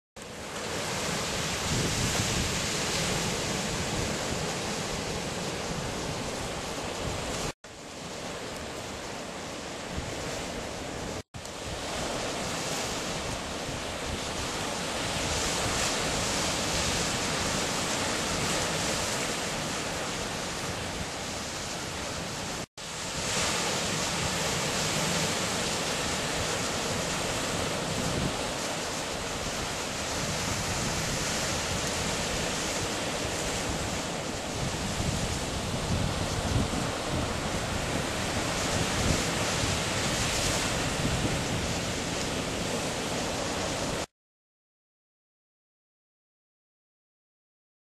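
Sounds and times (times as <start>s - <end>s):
ocean surf breaking on rocks: 0.2s - 44.1s.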